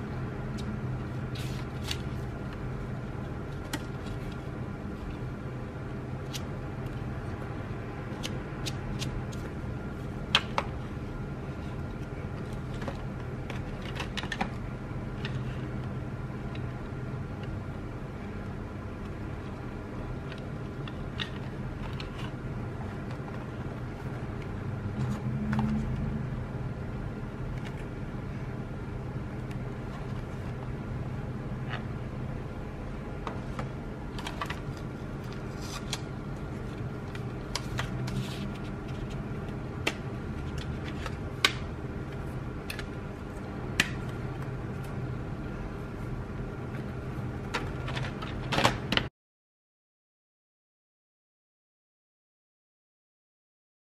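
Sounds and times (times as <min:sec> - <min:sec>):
steady low hum: 0:00.0 - 0:49.1.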